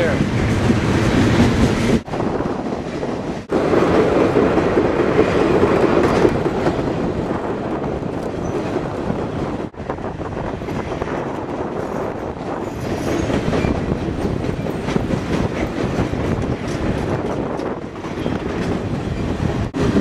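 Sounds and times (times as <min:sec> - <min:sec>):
moving train rumble and rail noise: 0:00.0 - 0:20.0.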